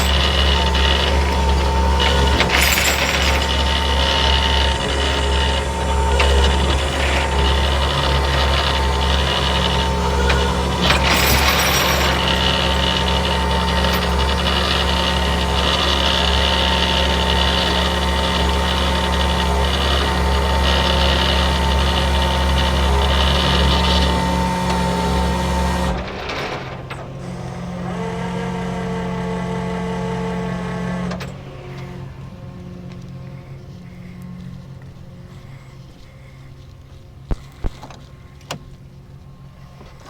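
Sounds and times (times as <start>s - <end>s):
vehicle engine running: 0.0s - 26.0s, 27.3s - 39.8s.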